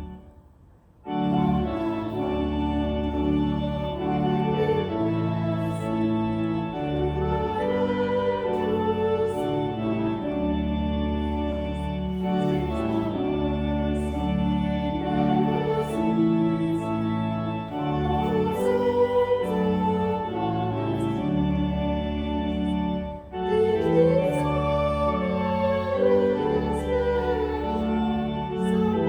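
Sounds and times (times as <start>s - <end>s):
organ chords: 0.0s - 29.0s.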